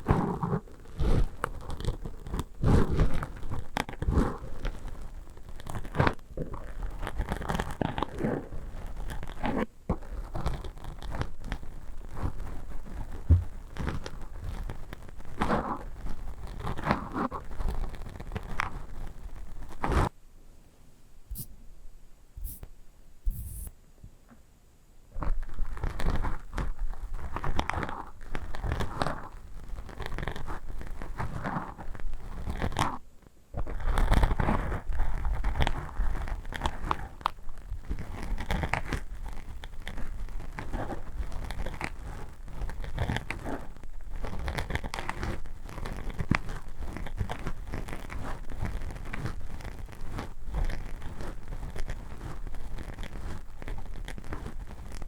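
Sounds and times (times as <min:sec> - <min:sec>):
crinkly material crumpling: 0:00.0 - 0:20.1, 0:25.2 - 0:55.0.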